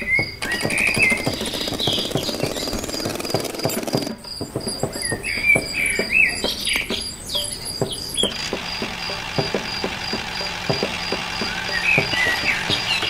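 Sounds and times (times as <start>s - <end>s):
birds chirping: 0.0s - 13.0s
rapid high insect-like pulsing: 0.0s - 13.0s
soft evenly spaced ticks: 0.0s - 13.0s.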